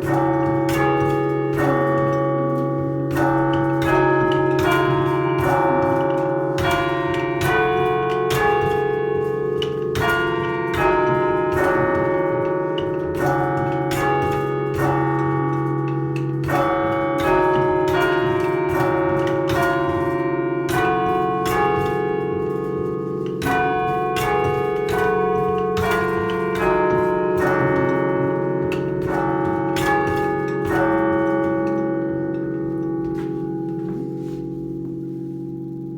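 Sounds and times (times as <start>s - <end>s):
church bells chiming a tune: 0.0s - 35.9s.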